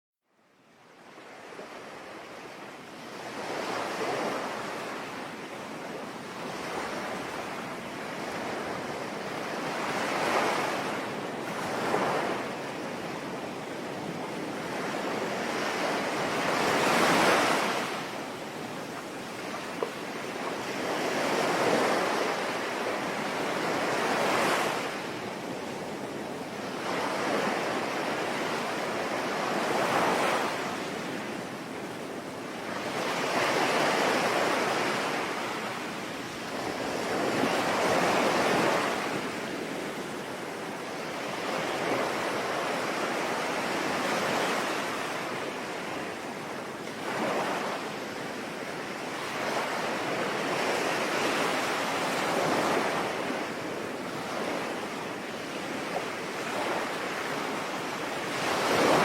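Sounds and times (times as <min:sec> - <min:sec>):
sea waves breaking on shore: 0:00.9 - 0:59.0.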